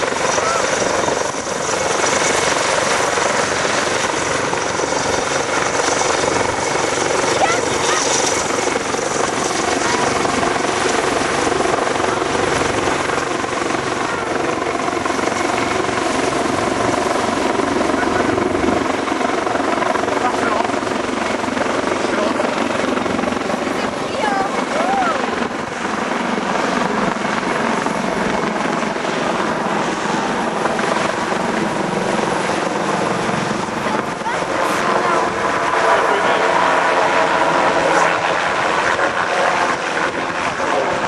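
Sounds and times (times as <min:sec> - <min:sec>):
helicopter rotor and engine: 0:00.0 - 0:41.0.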